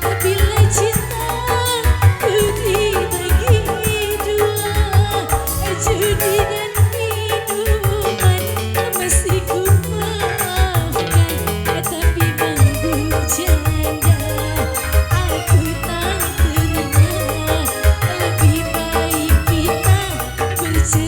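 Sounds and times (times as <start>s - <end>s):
keyboard band music: 0.0s - 21.0s.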